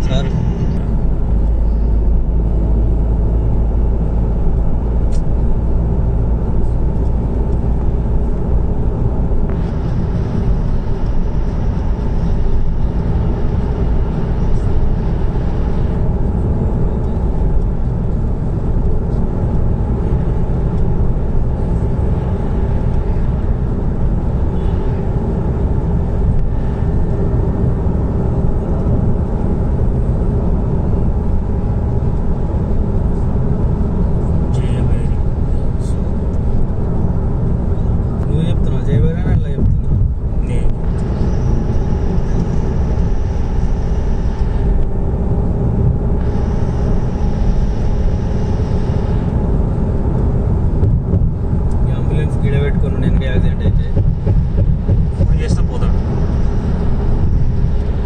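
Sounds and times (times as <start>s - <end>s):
car road noise: 0.0s - 58.0s.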